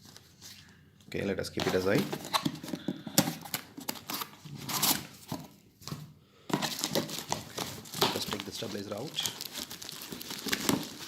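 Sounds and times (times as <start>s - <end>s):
cardboard rustling and scraping: 1.6s - 11.0s.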